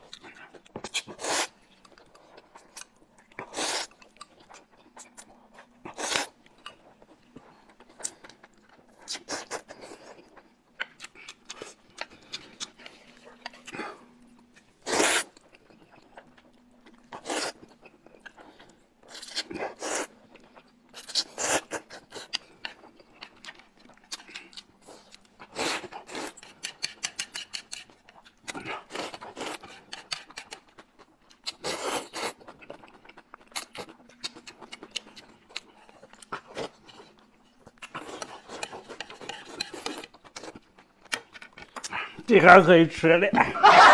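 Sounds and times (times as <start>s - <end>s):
chewing: 0.0s - 42.3s.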